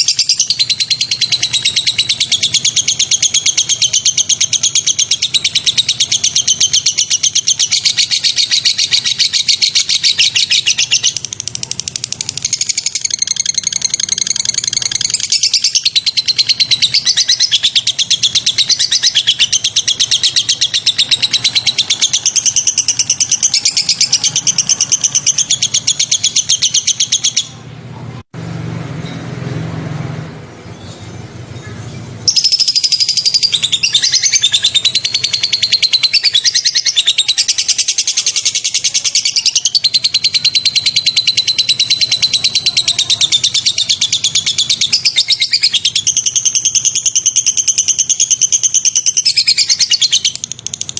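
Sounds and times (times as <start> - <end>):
recorded songbird chirps: 0.0 - 28.3, 30.3 - 50.9.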